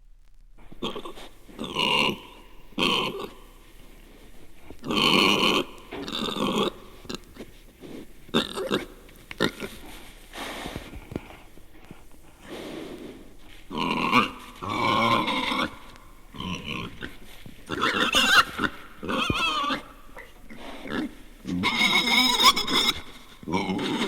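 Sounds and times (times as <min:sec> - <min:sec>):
animal grunting: 0:00.6 - 0:03.6, 0:04.7 - 0:24.0.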